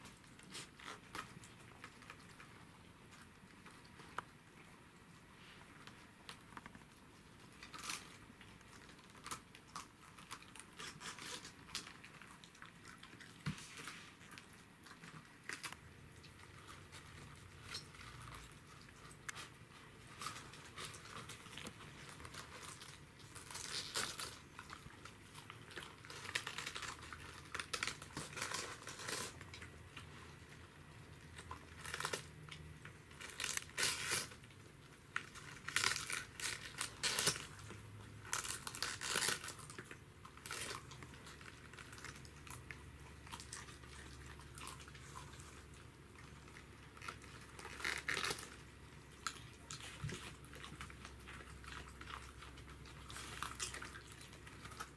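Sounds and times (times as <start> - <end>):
dogs crunching cabbage leaves: 0.0 - 54.9.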